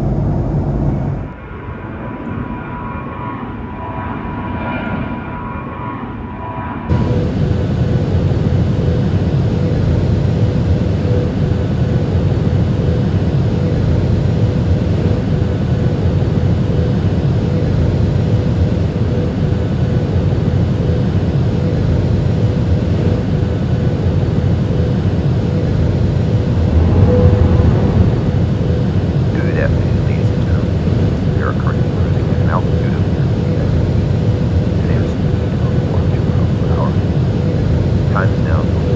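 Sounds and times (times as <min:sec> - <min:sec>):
engine and airflow roar: 0:00.0 - 0:38.9
faint steady hum: 0:06.9 - 0:38.9.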